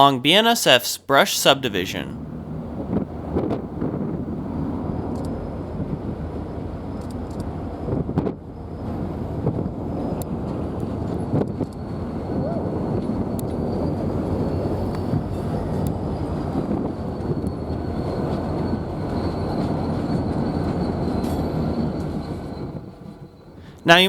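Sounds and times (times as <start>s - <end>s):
freight train wheels rumbling: 2.4s - 23.8s.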